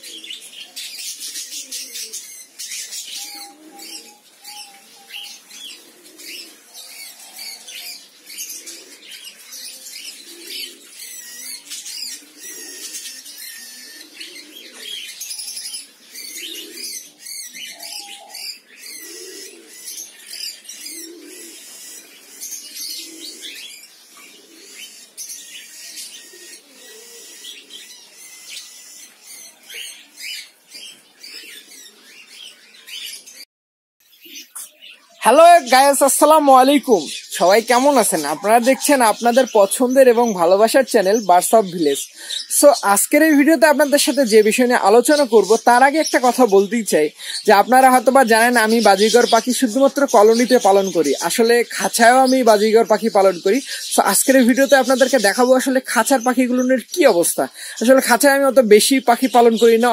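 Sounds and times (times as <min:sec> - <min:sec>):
budgerigars chattering: 0:00.0 - 0:33.4, 0:34.1 - 0:59.9.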